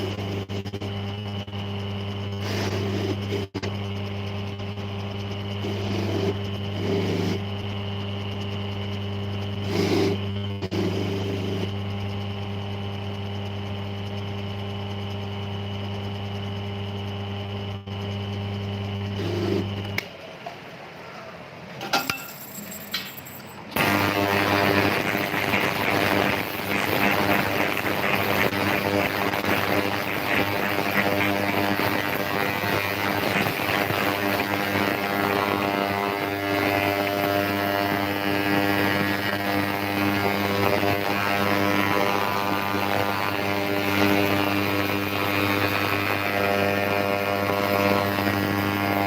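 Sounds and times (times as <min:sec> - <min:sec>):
electric motor humming: 0:00.0 - 0:20.1, 0:23.8 - 0:49.0.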